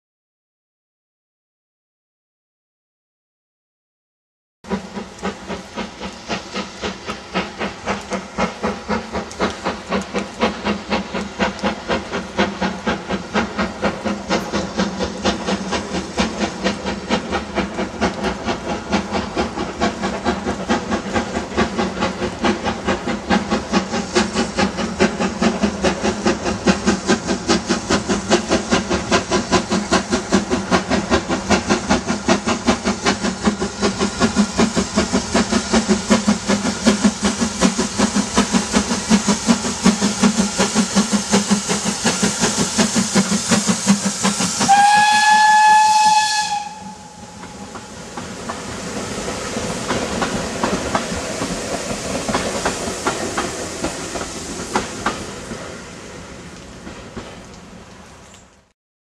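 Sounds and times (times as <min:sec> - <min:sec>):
steam locomotive exhaust beats: 0:04.6 - 0:58.7
steam hiss: 0:04.7 - 0:58.7.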